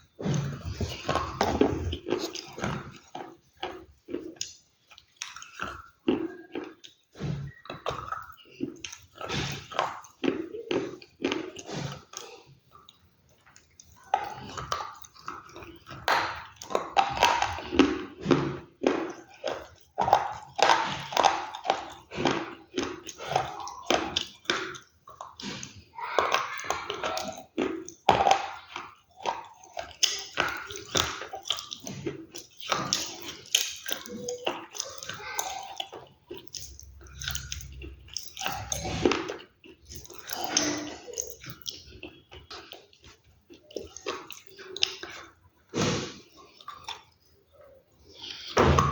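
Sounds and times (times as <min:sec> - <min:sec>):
chewing crunchy food: 0:00.0 - 0:48.9.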